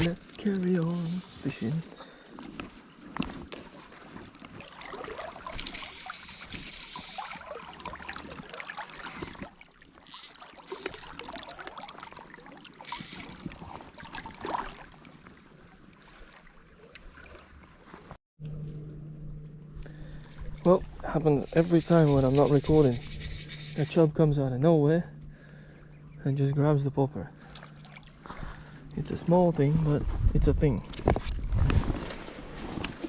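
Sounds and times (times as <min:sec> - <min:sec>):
water sloshing and trickling: 0:00.0 - 0:18.2, 0:19.4 - 0:30.3, 0:30.9 - 0:33.0.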